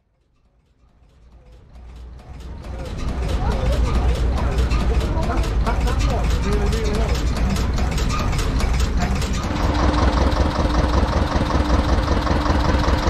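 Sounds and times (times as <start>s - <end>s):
stationary engine clattering: 0.0s - 13.0s
engine-driven generator running: 0.4s - 13.0s.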